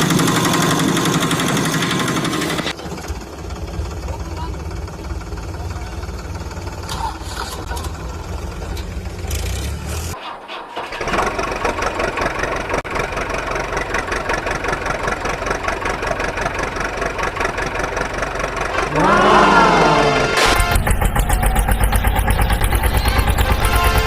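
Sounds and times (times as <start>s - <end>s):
truck engine running: 0.0s - 10.1s, 10.7s - 24.0s.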